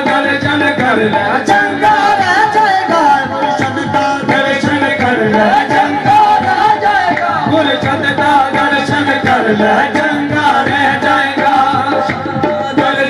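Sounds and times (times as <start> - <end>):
hand drums fast beat: 0.0 - 13.0.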